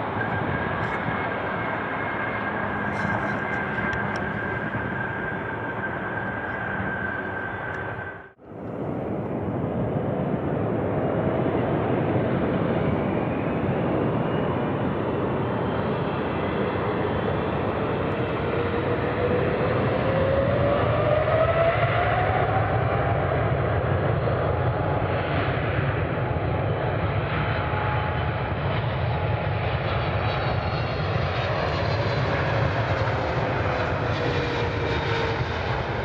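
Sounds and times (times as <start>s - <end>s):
jet engine whine: 0.0s - 36.0s.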